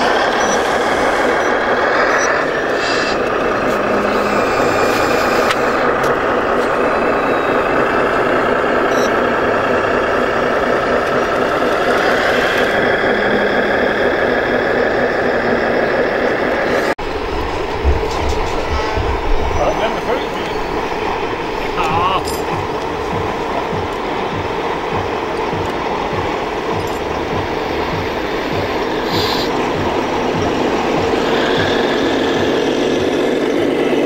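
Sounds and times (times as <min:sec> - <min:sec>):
model truck engine drone and whine: 0:00.0 - 0:34.0.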